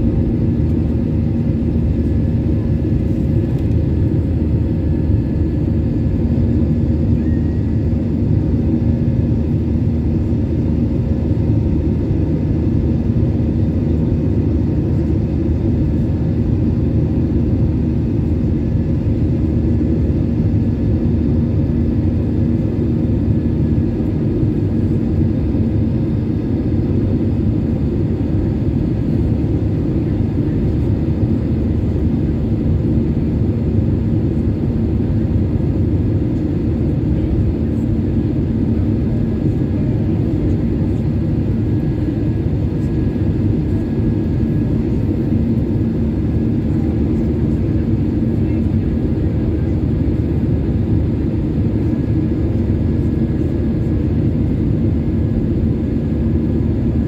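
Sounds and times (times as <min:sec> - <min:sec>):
jet engines and rushing air rumble: 0:00.0 - 0:57.0.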